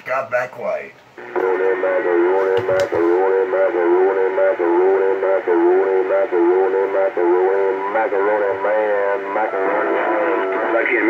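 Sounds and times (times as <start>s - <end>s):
warbling radio tone: 1.2s - 11.0s.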